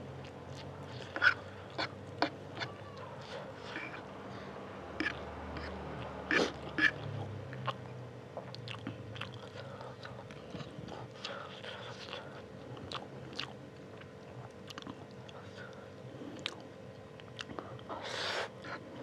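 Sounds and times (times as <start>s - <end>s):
man chewing noodles: 0.0s - 4.1s, 5.0s - 19.0s.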